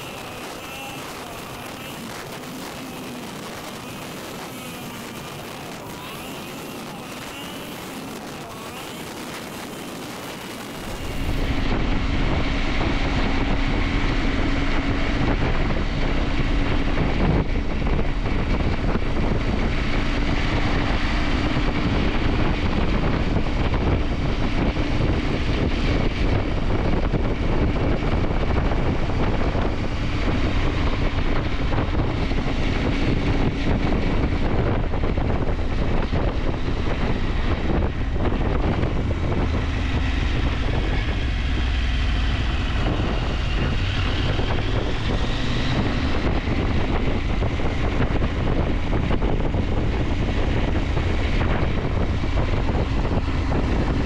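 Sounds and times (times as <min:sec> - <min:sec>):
motorcycle engine droning: 0:00.0 - 0:54.0
wind rush: 0:00.0 - 0:54.0.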